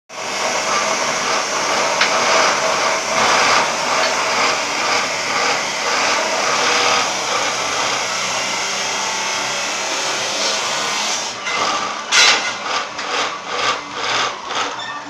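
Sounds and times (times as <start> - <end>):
loud whirring motor: 0.1 - 15.0.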